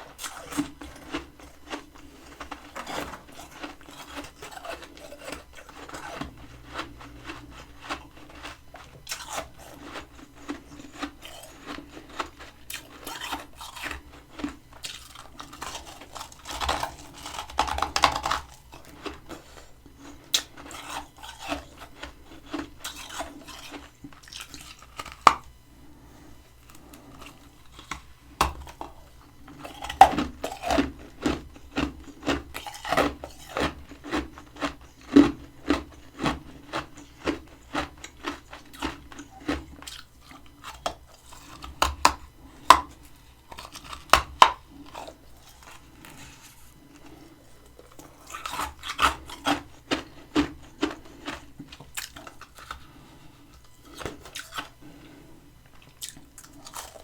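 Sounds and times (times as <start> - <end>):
crunching of frost being eaten: 0.0 - 57.0.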